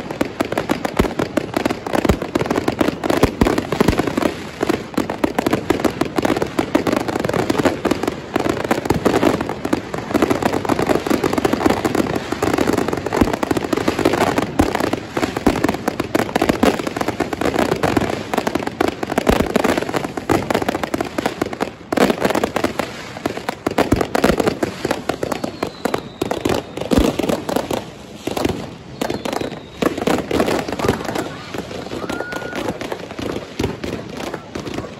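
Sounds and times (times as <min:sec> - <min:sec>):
firecrackers crackling: 0:00.0 - 0:34.9
loud firework bangs: 0:00.0 - 0:34.9.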